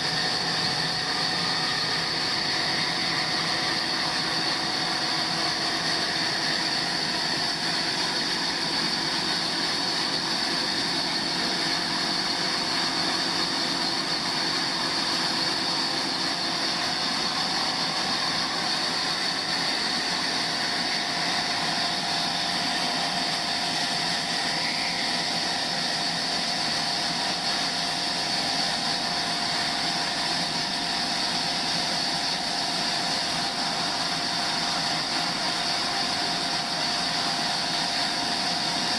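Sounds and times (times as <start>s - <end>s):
sawmill machinery whine and hum: 0.0s - 38.9s.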